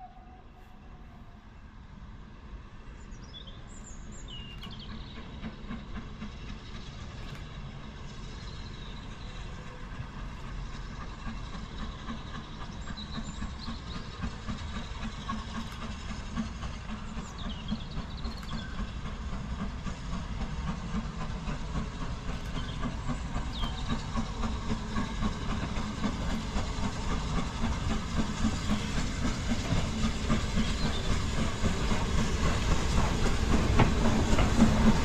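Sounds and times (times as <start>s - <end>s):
steam locomotive exhaust pulsing: 0.0s - 35.0s.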